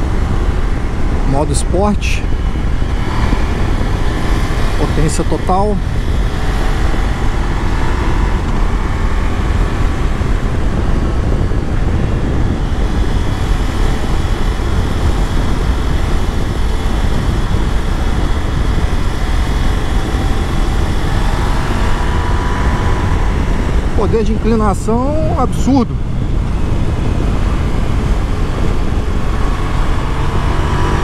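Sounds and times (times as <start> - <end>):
faint motorcycle engine: 0.0 - 31.0
wind rushing over microphone: 0.0 - 31.0.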